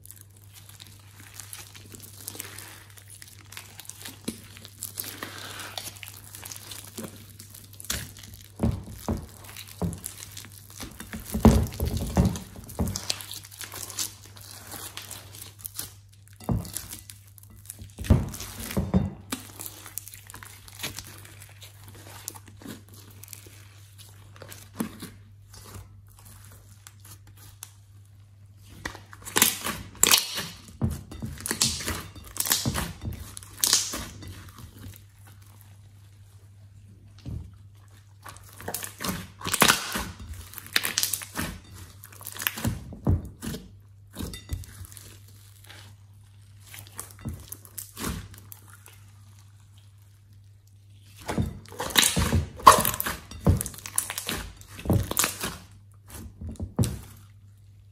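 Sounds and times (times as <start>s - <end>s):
wet slime squelches: 0.0s - 57.9s.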